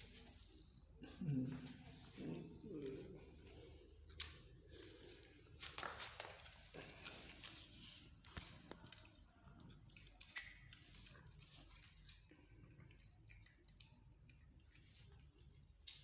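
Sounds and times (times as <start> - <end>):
cats eating: 0.0 - 16.0.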